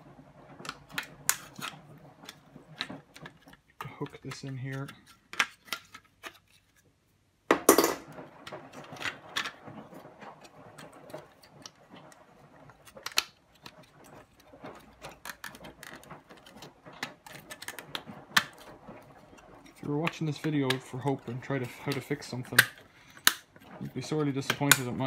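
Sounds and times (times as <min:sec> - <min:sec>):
plastic clatter: 0:00.0 - 0:06.8, 0:07.5 - 0:25.0.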